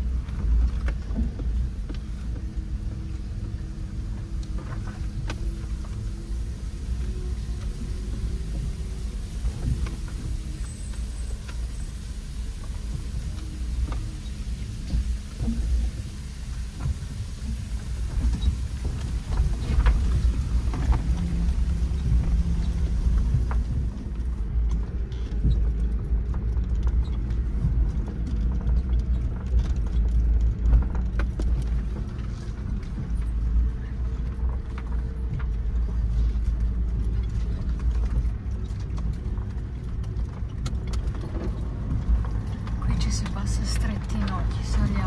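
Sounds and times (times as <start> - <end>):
low engine drone: 0.0 - 45.0.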